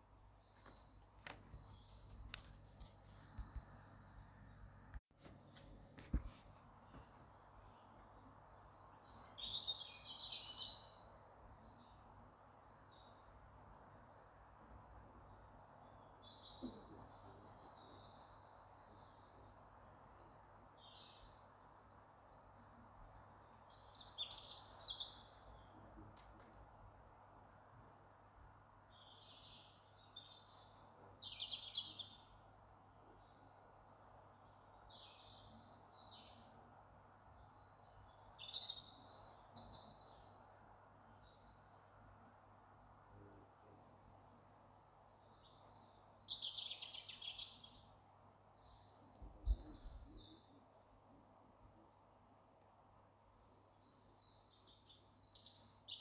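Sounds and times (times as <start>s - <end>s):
faint background hiss: 0.0s - 56.0s
songbirds chirping: 0.0s - 56.0s.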